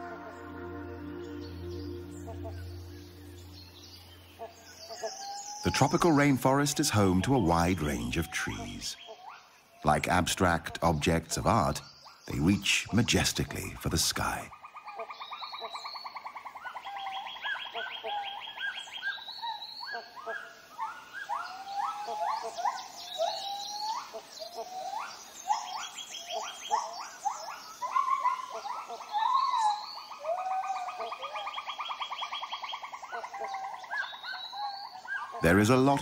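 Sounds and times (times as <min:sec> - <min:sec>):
upward-sweeping bird calls: 0:00.0 - 0:09.5, 0:10.4 - 0:36.0.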